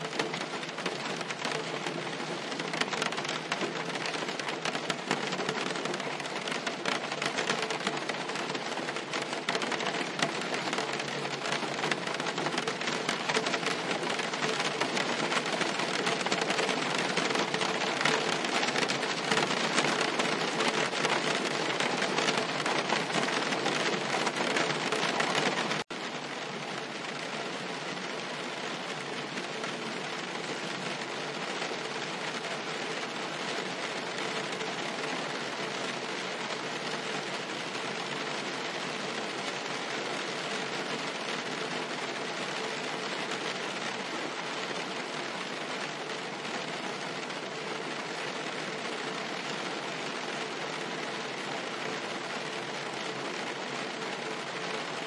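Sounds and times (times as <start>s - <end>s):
rain pattering on car roof: 0.0s - 55.0s.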